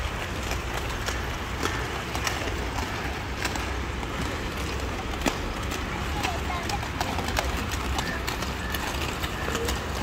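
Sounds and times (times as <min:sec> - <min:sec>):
roller skate wheels rolling: 0:00.0 - 0:10.0
sharp clacks of skates: 0:00.0 - 0:10.0.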